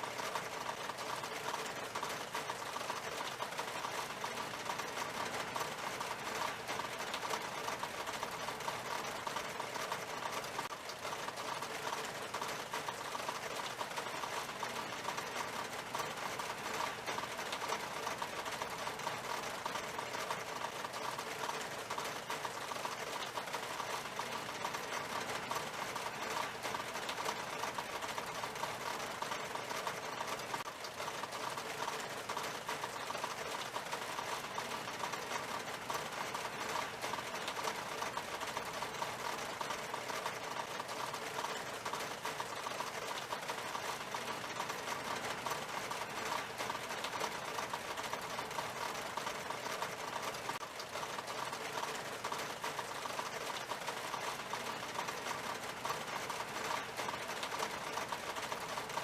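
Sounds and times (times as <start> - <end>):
rain on window glass: 0.0 - 59.0.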